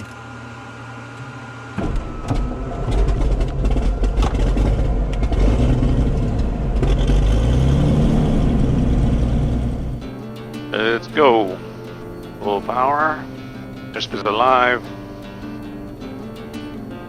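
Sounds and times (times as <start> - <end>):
aircraft piston engine starting: 0.0 - 17.0.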